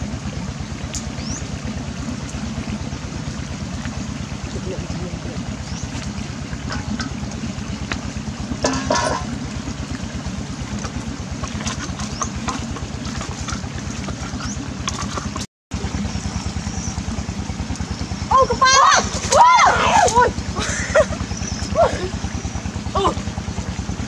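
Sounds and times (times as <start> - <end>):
small engine throbbing: 0.0 - 24.0.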